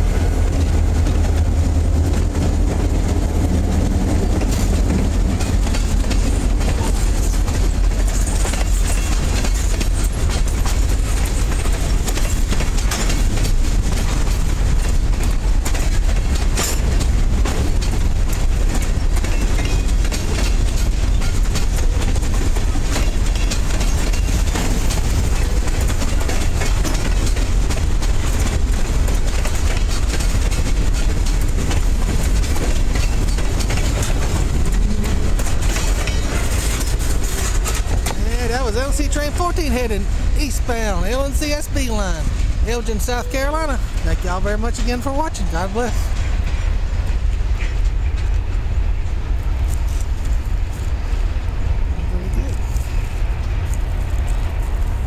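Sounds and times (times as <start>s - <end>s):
freight train rumble: 0.0s - 55.0s
wheels clicking over rail joints: 0.0s - 55.0s.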